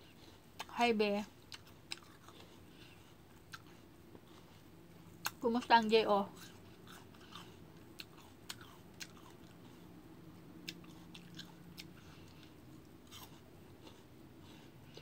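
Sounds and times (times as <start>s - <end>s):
person chewing crisp fruit: 0.0s - 15.0s.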